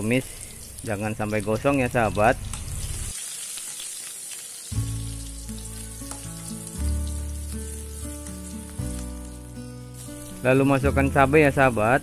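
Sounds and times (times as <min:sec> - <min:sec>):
shallots sizzling in oil: 0:00.0 - 0:12.0.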